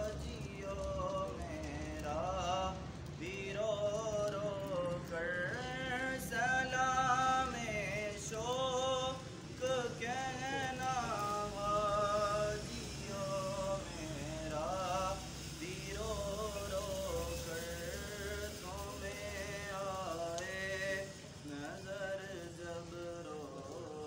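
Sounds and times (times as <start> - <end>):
young man singing unaccompanied: 0.0 - 24.0.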